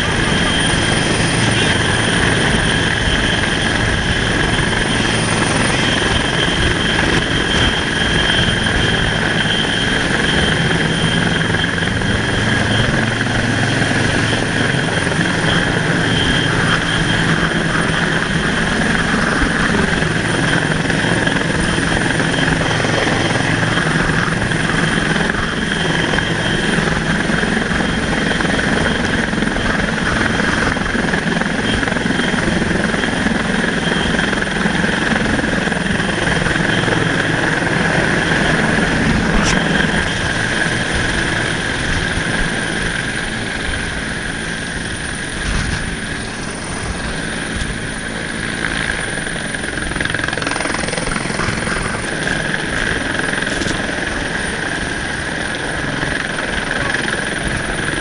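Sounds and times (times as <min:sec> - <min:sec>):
helicopter rotor and engine: 0:00.0 - 0:58.0
high turbine whine: 0:00.0 - 0:58.0.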